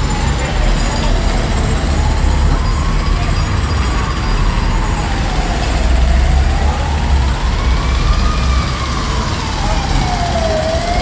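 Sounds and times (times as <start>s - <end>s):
siren wailing: 0.0s - 11.0s
traffic: 0.0s - 11.0s.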